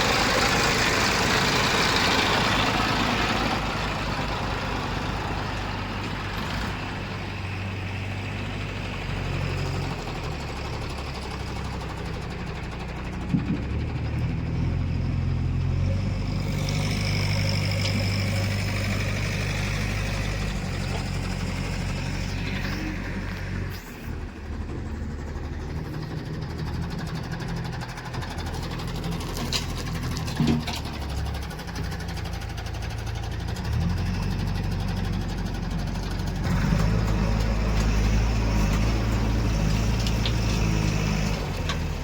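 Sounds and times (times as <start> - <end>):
heavy diesel engine running: 0.0 - 42.0.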